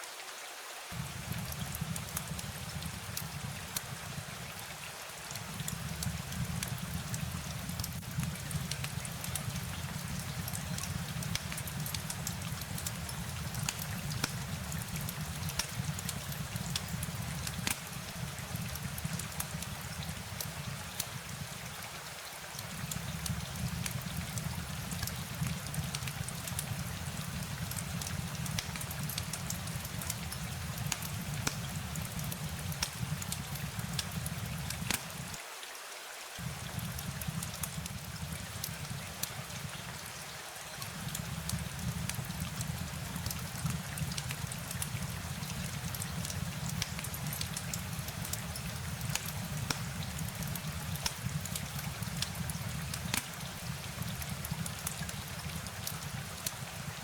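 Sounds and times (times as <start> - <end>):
rain hiss: 0.0 - 57.0
rain drops ticking: 0.8 - 35.4, 36.4 - 57.0.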